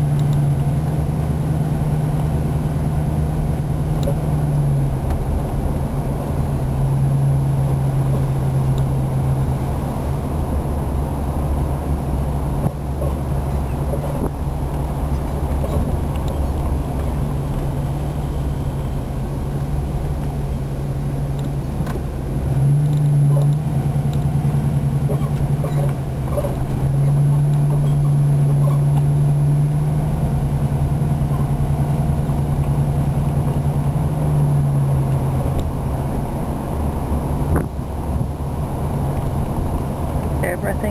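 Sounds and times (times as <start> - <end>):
car engine hum: 0.0 - 40.9
road noise: 0.0 - 40.9.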